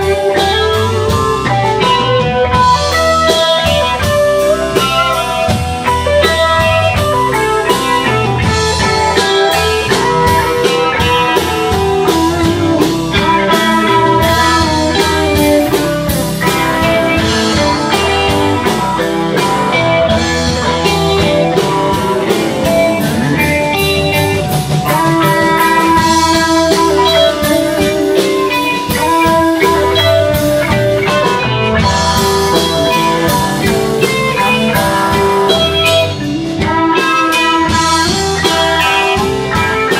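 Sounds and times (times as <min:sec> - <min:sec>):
live blues-rock band: 0:00.0 - 0:39.9.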